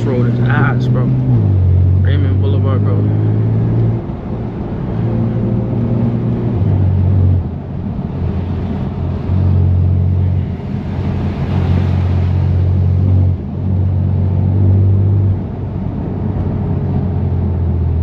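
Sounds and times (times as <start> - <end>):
car exhaust drone: 0.0 - 18.0.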